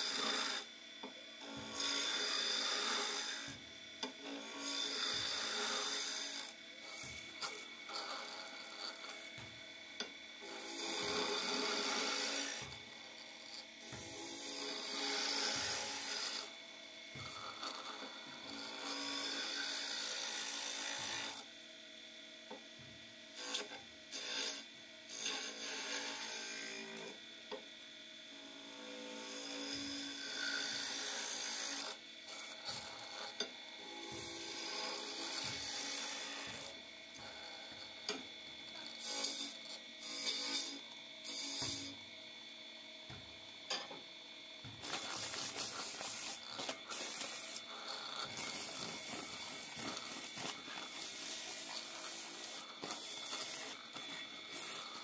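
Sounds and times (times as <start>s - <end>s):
chisel scraping wood on lathe: 0.0s - 0.7s, 1.4s - 9.4s, 10.4s - 21.4s, 23.4s - 27.2s, 29.2s - 33.5s, 34.2s - 41.9s, 44.6s - 55.0s
lathe humming: 0.0s - 22.3s, 23.0s - 55.0s.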